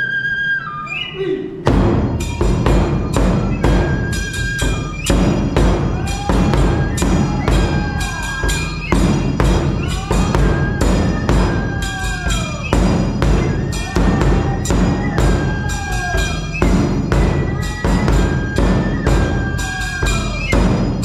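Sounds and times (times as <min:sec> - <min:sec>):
taiko drums beating: 0:01.6 - 0:21.0
metal hand cymbals ringing: 0:01.8 - 0:21.0.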